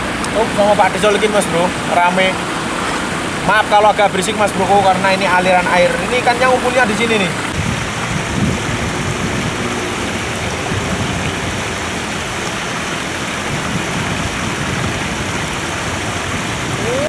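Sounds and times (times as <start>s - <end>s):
water pouring down a spillway: 0.0s - 17.0s.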